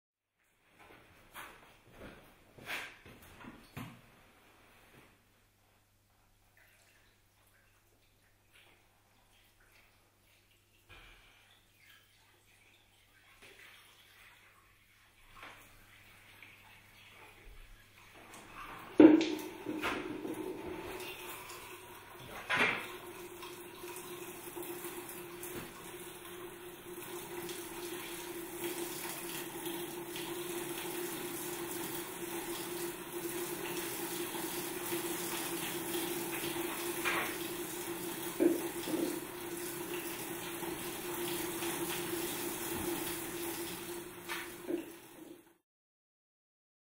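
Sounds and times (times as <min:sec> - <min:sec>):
water running: 0:06.1 - 0:45.6.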